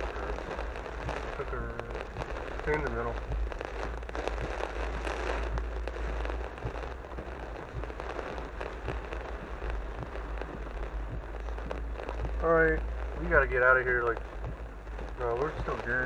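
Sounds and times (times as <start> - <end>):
car rumble: 0.0 - 16.0
rain pattering on windshield: 0.0 - 16.0.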